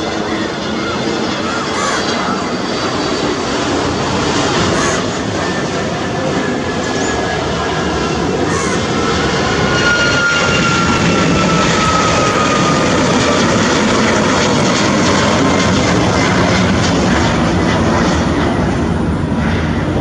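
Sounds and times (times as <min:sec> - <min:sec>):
jet engines roaring with whine: 0:00.0 - 0:20.0.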